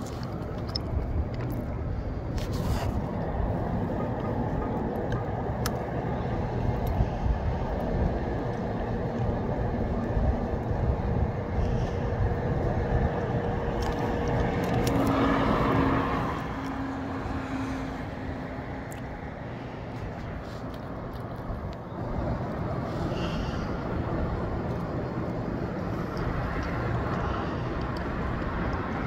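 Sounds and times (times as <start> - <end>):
wind gusting on microphone: 0.0 - 29.0
vehicle passing: 1.6 - 29.0.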